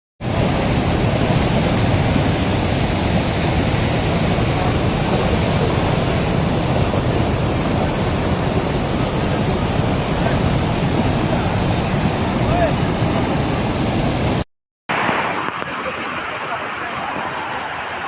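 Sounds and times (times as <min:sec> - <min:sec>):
stream rushing: 0:00.2 - 0:18.0.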